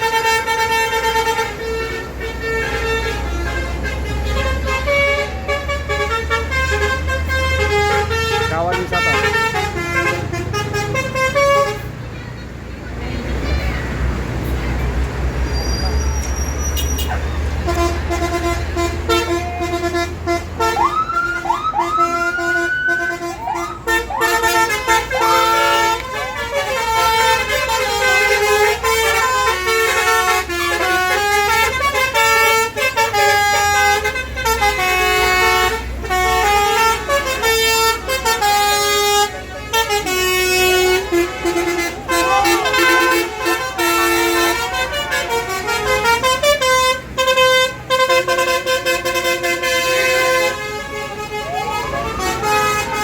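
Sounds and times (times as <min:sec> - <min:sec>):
musical bus horn melody: 0:00.0 - 0:12.4, 0:14.3 - 0:53.0
low engine rumble: 0:00.0 - 0:53.0.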